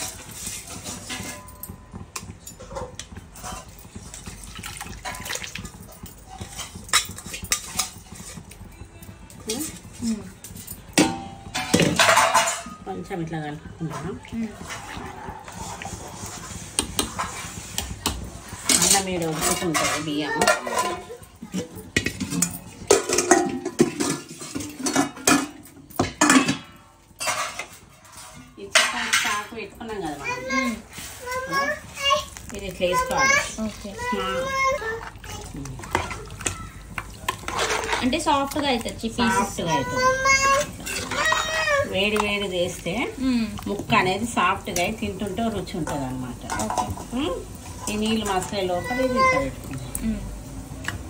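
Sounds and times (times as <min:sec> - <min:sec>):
liquid pouring into a pot: 0:00.0 - 0:51.0.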